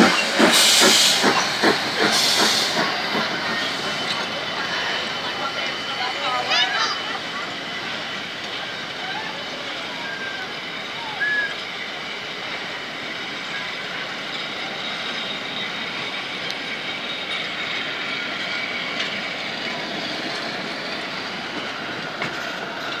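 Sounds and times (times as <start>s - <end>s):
train carriages rattling on rails: 0.0s - 23.0s.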